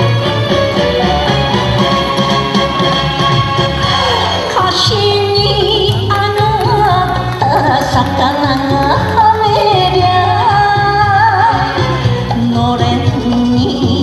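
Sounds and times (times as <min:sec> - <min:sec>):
wavering lead melody: 0:00.0 - 0:14.0.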